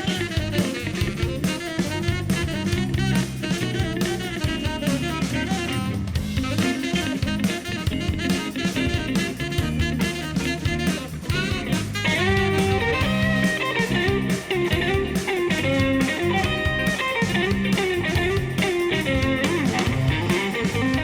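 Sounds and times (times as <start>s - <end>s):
drum kit steady beat: 0.0s - 21.0s.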